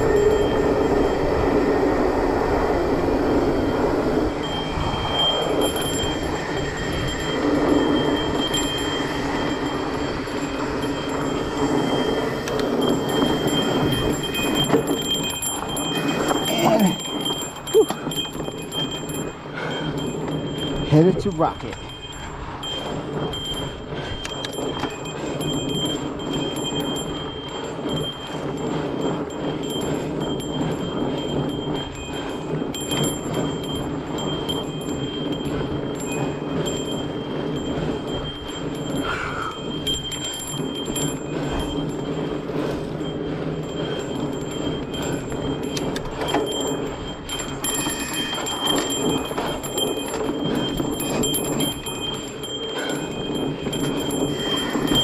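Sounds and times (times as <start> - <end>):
bike tyres rumbling on dirt: 0.0 - 21.2, 21.8 - 55.0
high metallic ringing: 0.0 - 55.0.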